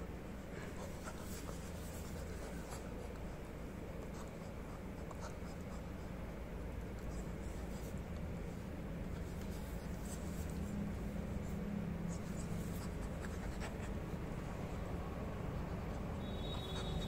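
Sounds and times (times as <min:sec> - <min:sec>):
hand rubbing puppy fur: 0:00.4 - 0:17.0.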